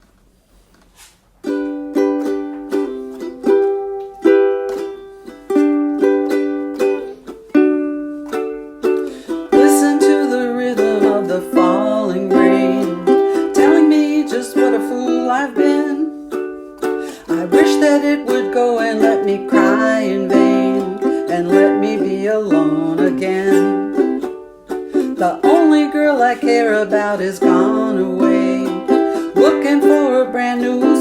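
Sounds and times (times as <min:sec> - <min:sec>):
person singing: 0:01.5 - 0:31.0.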